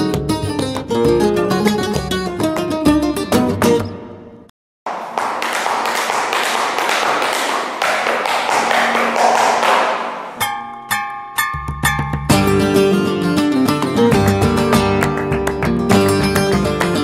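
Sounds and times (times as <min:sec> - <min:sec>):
flamenco footwork stamping: 0:00.0 - 0:03.9, 0:04.9 - 0:10.6, 0:11.5 - 0:17.0
flamenco guitar music: 0:00.0 - 0:04.1, 0:06.8 - 0:17.0.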